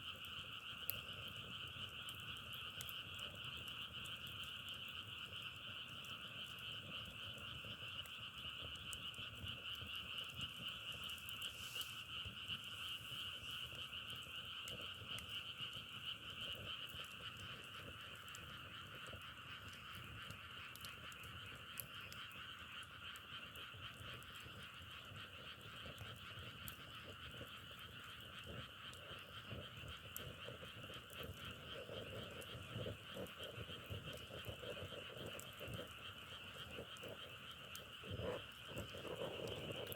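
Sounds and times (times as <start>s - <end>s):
faint crackling clicks: 0.1s - 39.9s
frogs calling: 0.1s - 39.9s.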